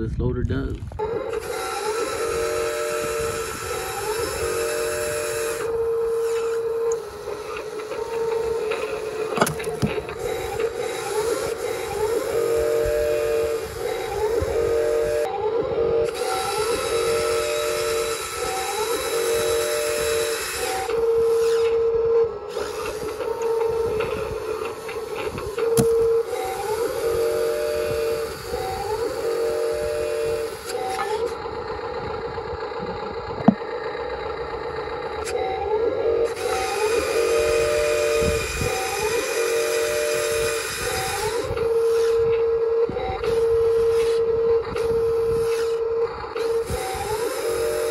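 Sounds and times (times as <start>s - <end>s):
steady hum: 0.0s - 47.9s
electric motors whining: 0.6s - 47.9s
hissing lift noise: 1.0s - 15.3s, 15.9s - 31.7s, 35.0s - 47.9s.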